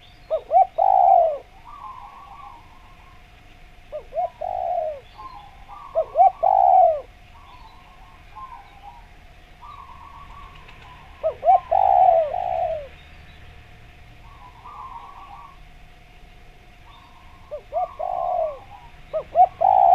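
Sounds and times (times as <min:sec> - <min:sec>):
dove cooing: 0:00.0 - 0:13.1, 0:14.1 - 0:19.9
small birds twittering: 0:00.0 - 0:19.9.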